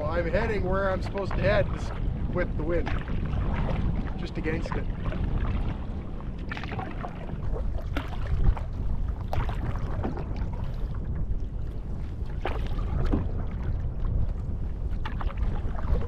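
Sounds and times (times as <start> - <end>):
paddle splashing water: 0.0 - 16.0
water slapping against hull: 0.0 - 16.0
wind buffeting microphone: 0.0 - 16.0.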